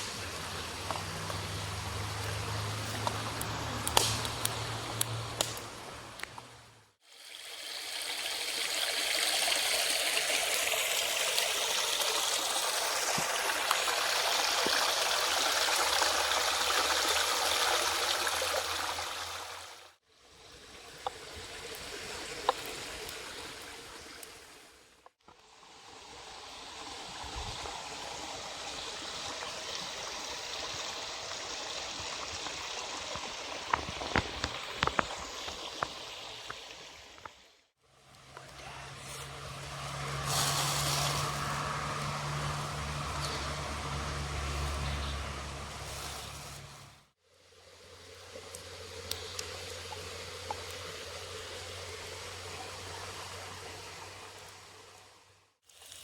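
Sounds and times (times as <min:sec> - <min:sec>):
running water rushing: 0:00.0 - 0:06.2, 0:07.0 - 0:55.2.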